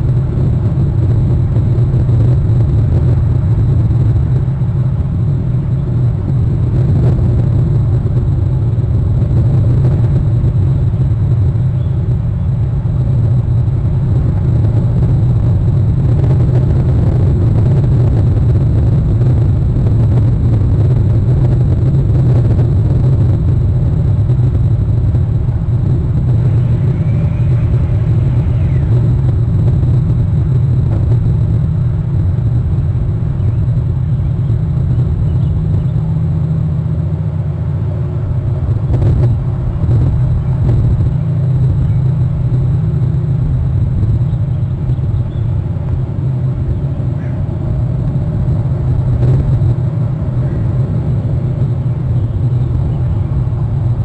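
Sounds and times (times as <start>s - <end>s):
faint high electronic whine: 0.0s - 54.0s
wind buffeting microphone: 0.0s - 54.0s.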